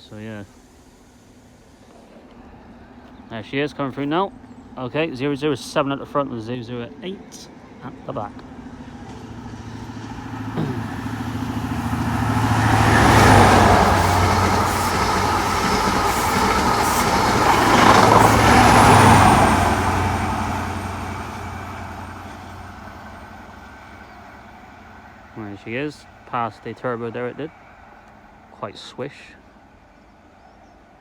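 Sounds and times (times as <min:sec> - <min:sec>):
diesel train engine drone: 0:00.0 - 0:31.0
wheels rushing on rails: 0:00.1 - 0:28.6.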